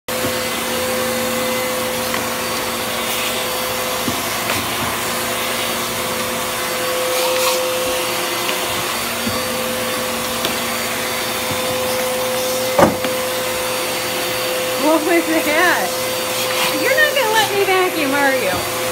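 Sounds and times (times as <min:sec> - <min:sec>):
vacuum cleaner running: 0:00.1 - 0:18.9.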